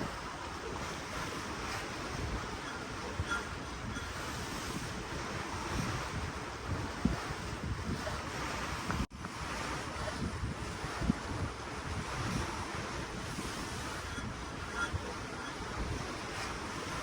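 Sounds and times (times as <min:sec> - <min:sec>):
ocean water surging: 0:00.0 - 0:17.0
wind buffeting microphone: 0:00.0 - 0:17.0.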